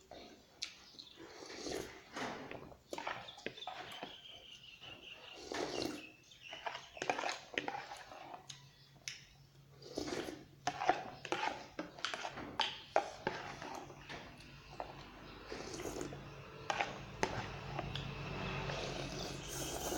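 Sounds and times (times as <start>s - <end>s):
chewing and slurping: 0.0s - 19.9s.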